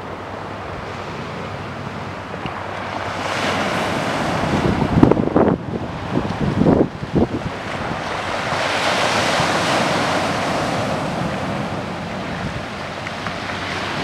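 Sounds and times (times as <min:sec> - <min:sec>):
sea surf washing: 0:00.0 - 0:14.0
wind buffeting microphone: 0:00.0 - 0:14.0.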